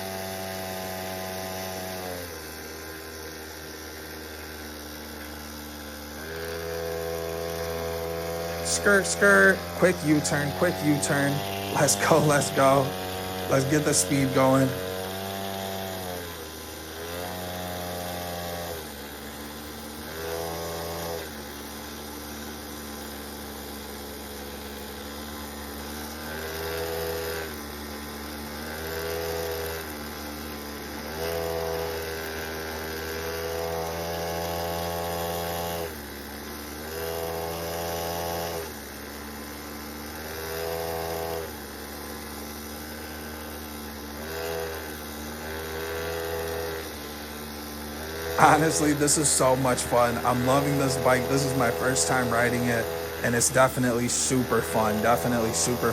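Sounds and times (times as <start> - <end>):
small engine revving: 0.0 - 55.9.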